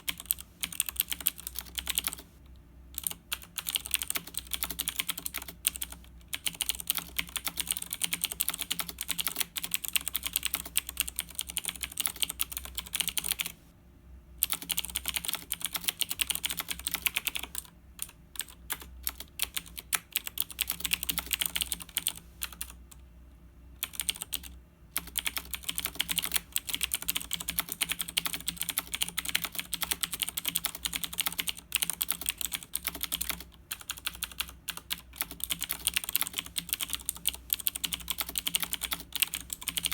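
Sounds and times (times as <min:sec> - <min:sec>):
fast typing on mechanical keyboard: 0:00.0 - 0:02.3, 0:03.0 - 0:13.6, 0:14.4 - 0:22.8, 0:23.8 - 0:39.9
faint low hum: 0:00.0 - 0:39.9.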